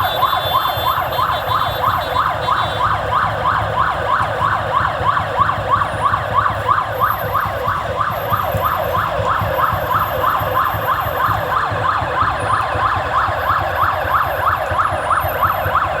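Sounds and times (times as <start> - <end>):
siren yelping: 0.0 - 16.0.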